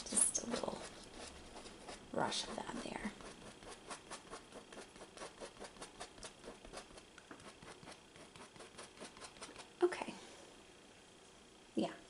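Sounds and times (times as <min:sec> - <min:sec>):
paintbrush dabbing on canvas: 0:00.0 - 0:09.8.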